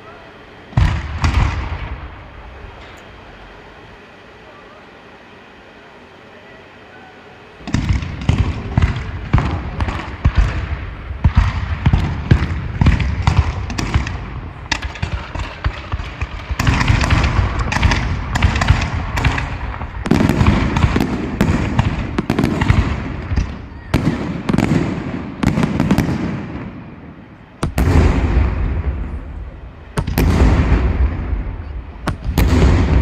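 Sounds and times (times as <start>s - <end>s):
low steady background noise: 0.0s - 33.0s
fireworks bangs: 0.7s - 3.6s, 7.6s - 33.0s.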